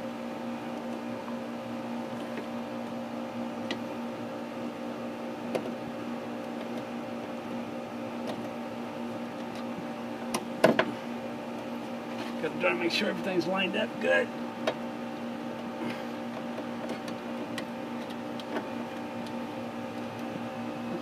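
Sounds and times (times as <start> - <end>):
electrical machine hum: 0.0 - 21.0.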